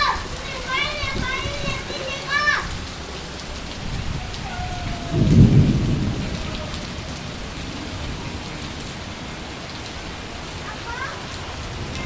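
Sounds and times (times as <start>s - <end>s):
low rumble of thunder: 0.0s - 10.7s
heavy rain falling: 0.0s - 12.0s.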